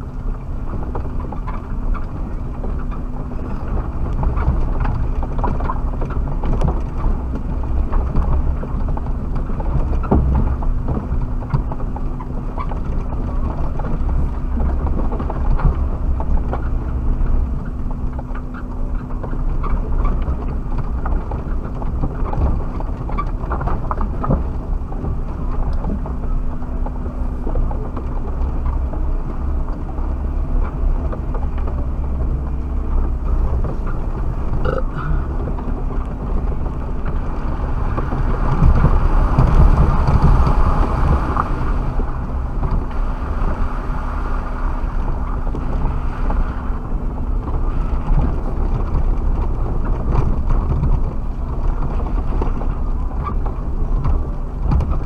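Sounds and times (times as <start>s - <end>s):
car engine and drivetrain rumble: 0.0s - 55.0s.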